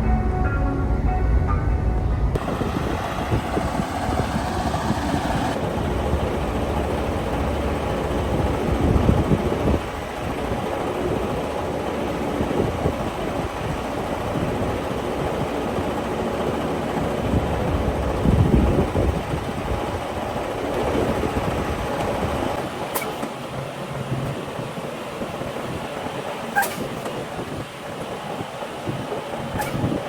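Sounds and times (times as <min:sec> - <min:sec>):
diesel truck engine rumbling: 0:00.0 - 0:30.0.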